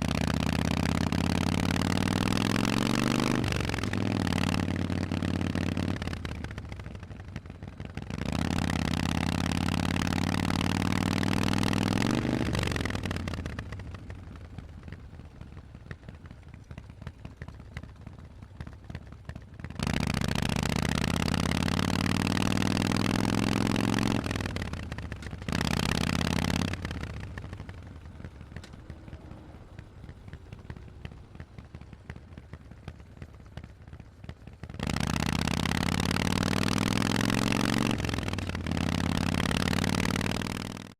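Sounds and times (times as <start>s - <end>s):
motorcycle engine revving and coasting: 0.0s - 40.9s.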